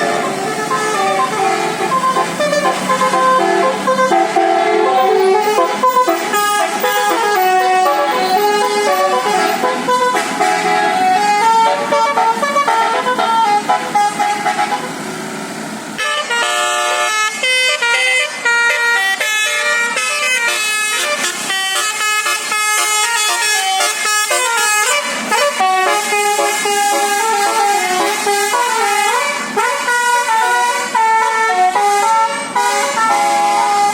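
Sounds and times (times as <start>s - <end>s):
bus horn playing a tune: 0.0s - 15.2s, 16.0s - 33.9s.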